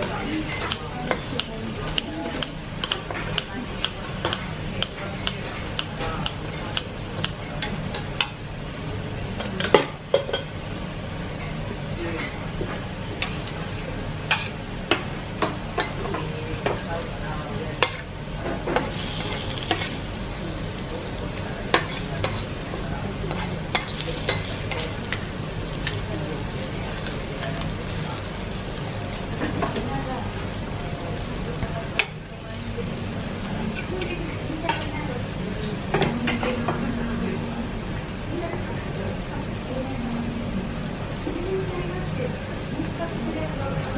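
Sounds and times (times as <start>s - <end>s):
meat sizzling on grill: 0.0s - 43.9s.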